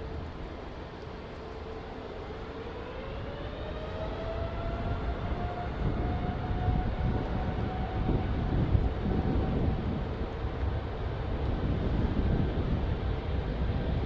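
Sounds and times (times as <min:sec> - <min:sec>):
aircraft engine low roar: 0:00.0 - 0:14.0
aircraft engine whine: 0:00.0 - 0:14.0.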